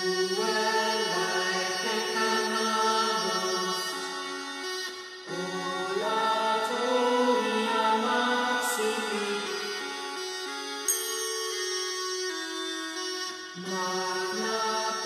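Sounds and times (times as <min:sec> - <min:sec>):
background music of held notes: 0:00.0 - 0:15.0.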